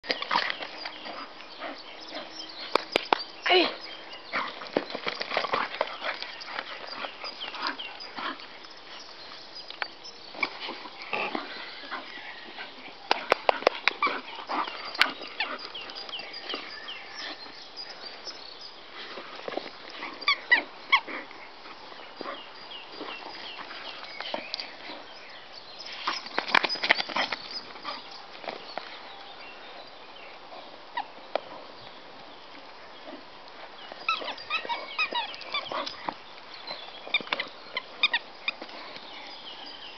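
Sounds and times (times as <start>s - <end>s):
dog playing noises: 0.0s - 39.9s.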